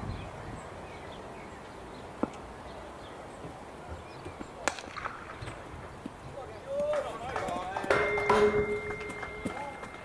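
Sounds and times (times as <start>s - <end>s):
low outdoor background: 0.0s - 10.0s.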